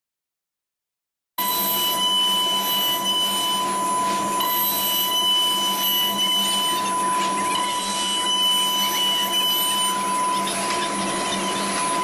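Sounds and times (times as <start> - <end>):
router spindle cutting wood: 1.4 - 12.0.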